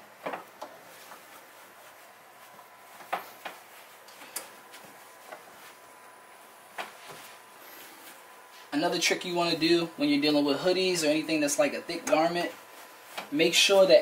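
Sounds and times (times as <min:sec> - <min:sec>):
taps and rustles of hoodie: 0:00.0 - 0:08.7, 0:11.4 - 0:14.0
faint room hiss: 0:00.0 - 0:14.0.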